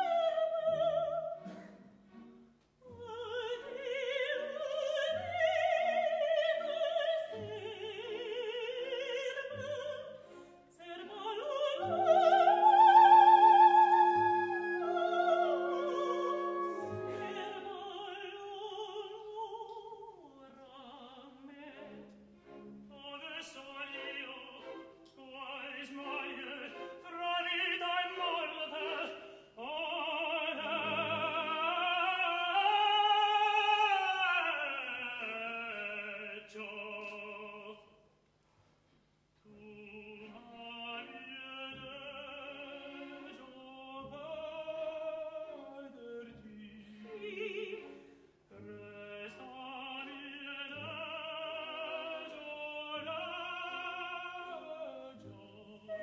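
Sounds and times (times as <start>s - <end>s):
operatic soprano and tenor singing: 0.0s - 38.0s, 39.4s - 56.0s.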